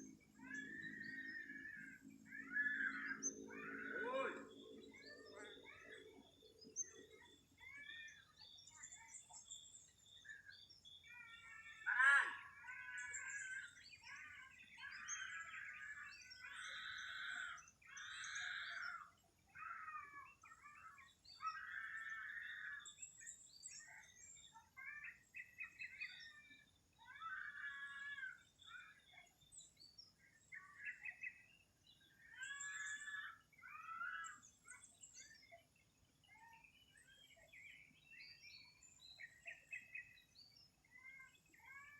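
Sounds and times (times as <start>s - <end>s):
birds chirping and calling: 0.0s - 41.9s.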